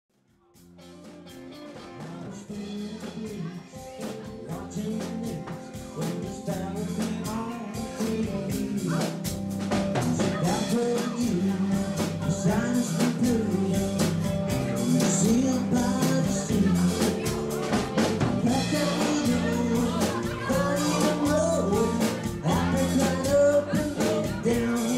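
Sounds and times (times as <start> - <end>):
electric guitar: 0.6 - 24.9
steady drum beat: 0.6 - 24.9
person singing: 1.5 - 24.9.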